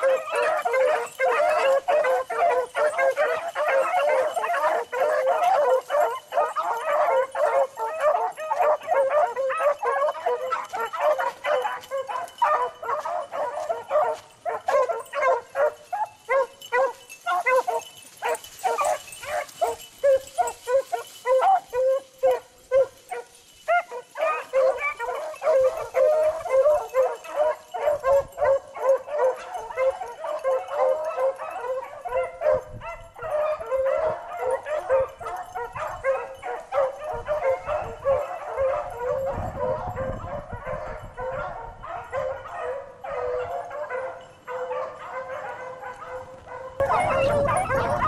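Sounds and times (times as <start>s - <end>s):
dogs baying and barking: 0.0s - 48.0s.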